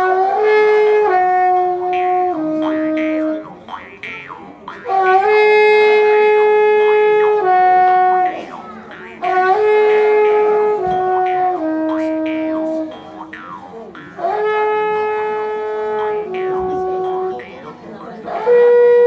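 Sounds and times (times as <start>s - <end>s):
reedy wind instruments melody: 0.0s - 19.0s.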